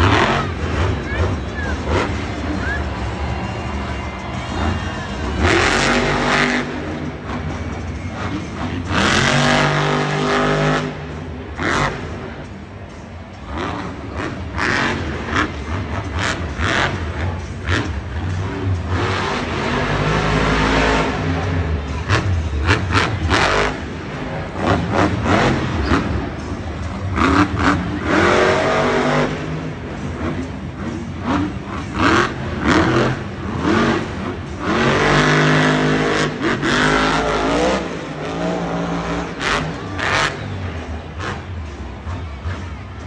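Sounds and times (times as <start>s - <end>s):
monster truck engine revving: 0.0s - 43.0s.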